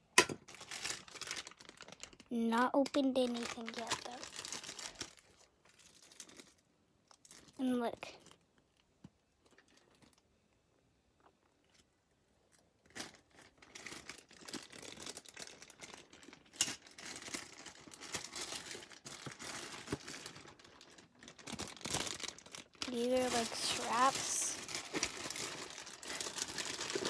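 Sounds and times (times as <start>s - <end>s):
plastic bags crinkling: 0.2s - 8.4s, 12.5s - 27.0s.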